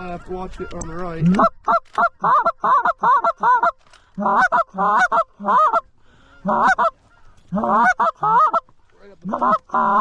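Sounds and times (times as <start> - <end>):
goose honking: 0.0 - 10.0.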